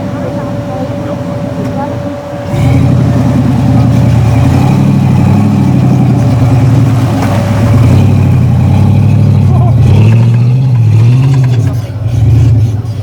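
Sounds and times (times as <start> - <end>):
engine revving under throttle: 2.4 - 13.0.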